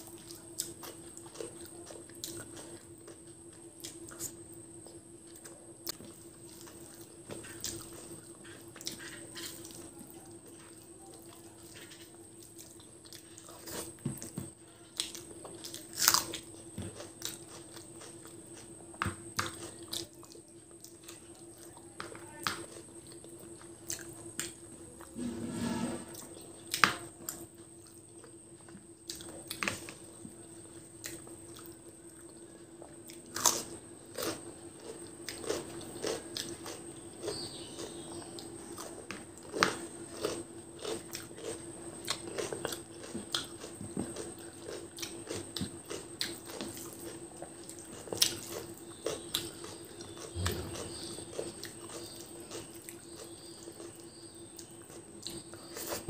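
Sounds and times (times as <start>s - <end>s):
wet chewing and smacking: 0.0s - 25.0s, 26.7s - 56.0s.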